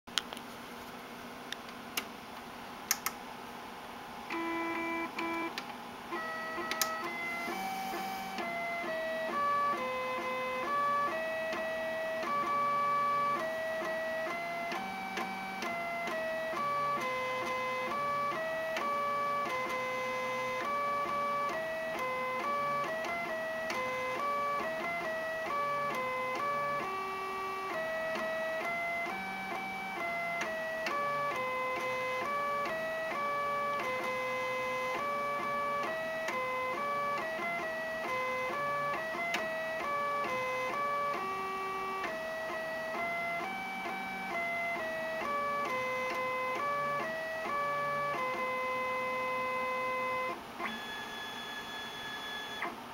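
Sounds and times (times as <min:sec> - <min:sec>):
scanner motor playing buzzing melody: 0:04.3 - 0:52.7.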